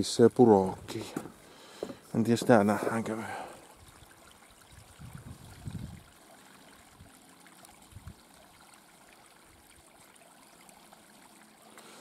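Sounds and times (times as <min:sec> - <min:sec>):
faint brook trickling: 0:00.0 - 0:12.0.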